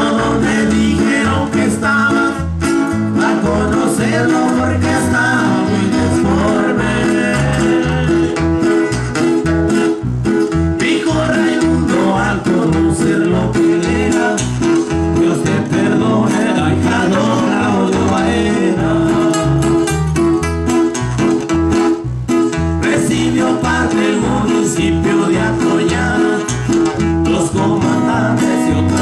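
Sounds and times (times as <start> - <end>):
acoustic guitars strumming: 0.0 - 29.0
electric bass line: 0.0 - 29.0.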